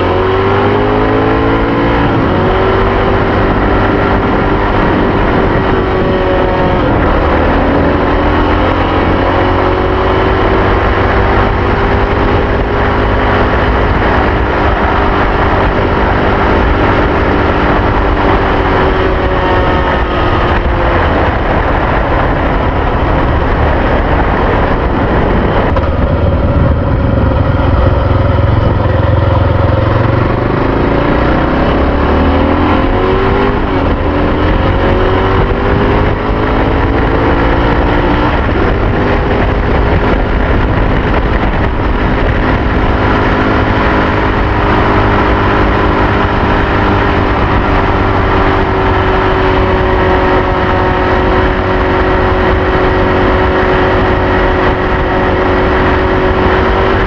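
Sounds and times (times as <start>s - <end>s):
motorcycle engine accelerating: 0.0s - 57.0s
wind and road noise: 0.0s - 57.0s.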